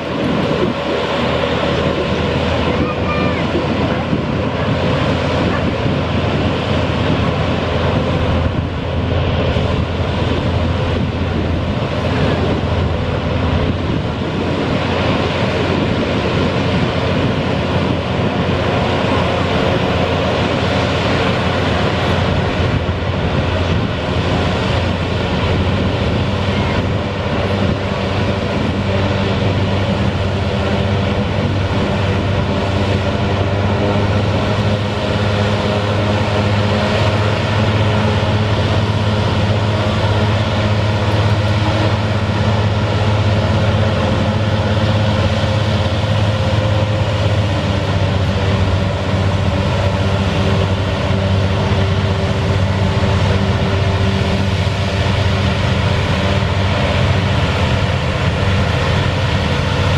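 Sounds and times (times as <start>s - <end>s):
hovercraft engine drone: 0.0s - 59.9s
low hum: 0.0s - 59.9s.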